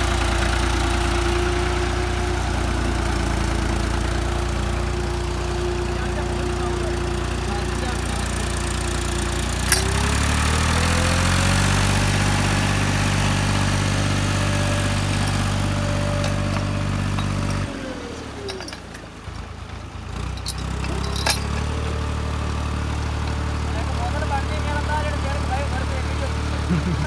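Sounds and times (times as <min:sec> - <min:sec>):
tractor diesel engine revving: 0:00.0 - 0:27.0.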